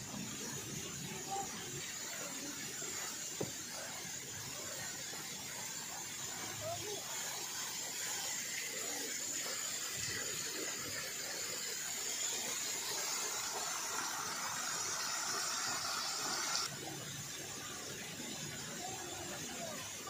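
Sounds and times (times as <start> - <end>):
spraying hiss: 0.0 - 16.7.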